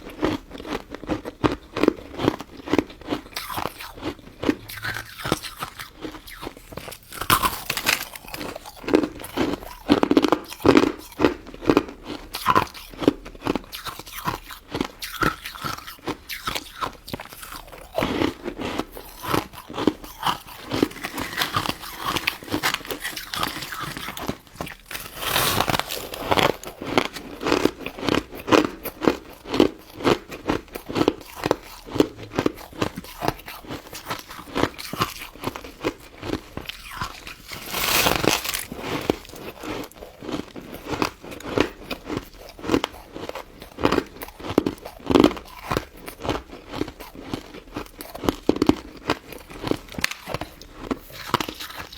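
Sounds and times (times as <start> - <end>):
crunchy chewing of ice dessert: 0.0 - 51.9.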